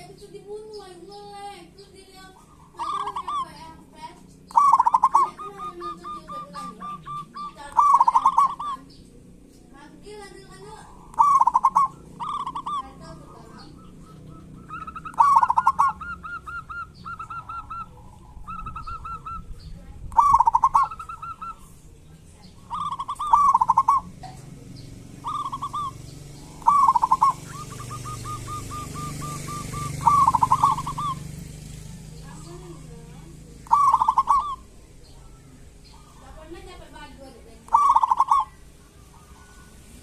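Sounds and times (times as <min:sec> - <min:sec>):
doves calling: 0:00.0 - 0:40.0.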